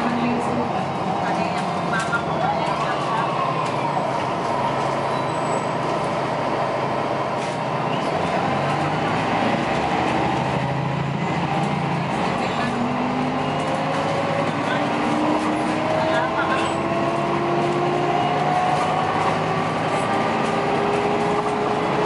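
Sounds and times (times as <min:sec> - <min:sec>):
bus diesel engine humming: 0:00.0 - 0:22.0
road noise: 0:00.0 - 0:22.0.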